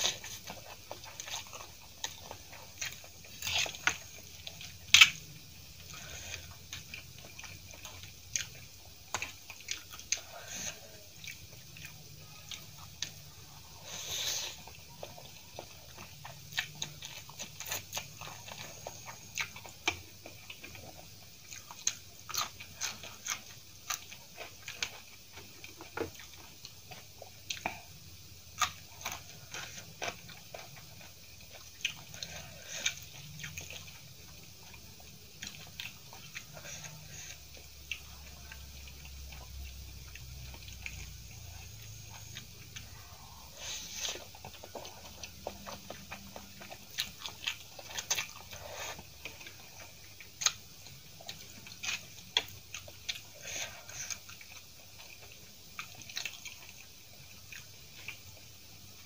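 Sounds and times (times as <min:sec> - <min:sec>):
wet chewing with mouth clicks: 0:00.0 - 0:59.0.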